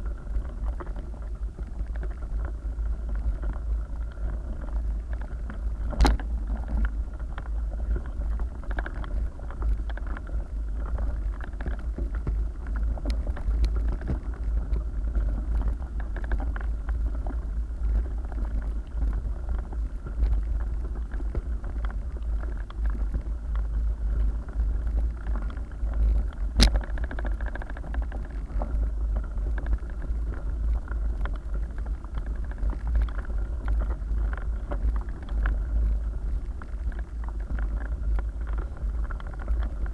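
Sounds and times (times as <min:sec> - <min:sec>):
wind and vibration rumble: 0:00.0 - 0:39.9.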